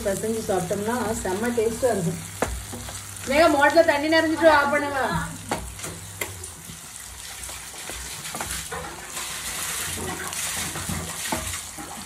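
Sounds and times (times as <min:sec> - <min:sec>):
gravy sizzling in oil: 0:00.0 - 0:12.0.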